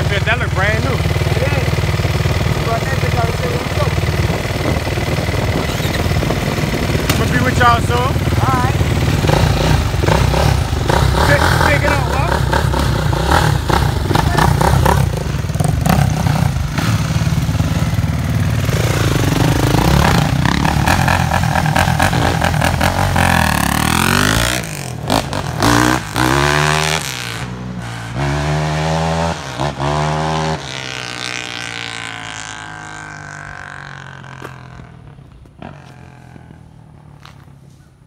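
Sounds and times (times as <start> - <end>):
dirt bike engine revving: 0.0 - 37.2.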